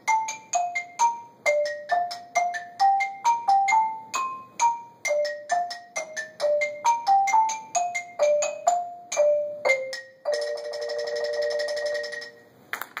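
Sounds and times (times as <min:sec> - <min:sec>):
xylophone duet: 0:00.0 - 0:12.5.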